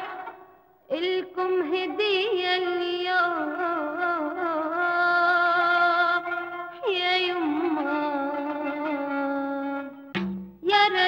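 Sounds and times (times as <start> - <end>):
woman singing: 0.9 - 10.0, 10.6 - 11.0.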